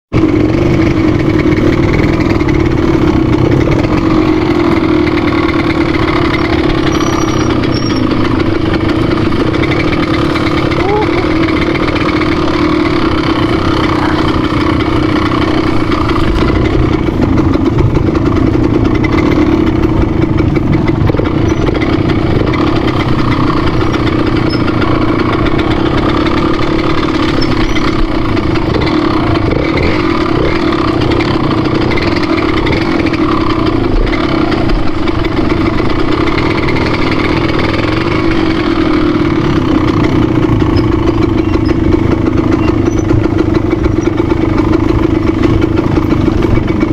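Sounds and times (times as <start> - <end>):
engine running steadily: 0.1 - 46.9.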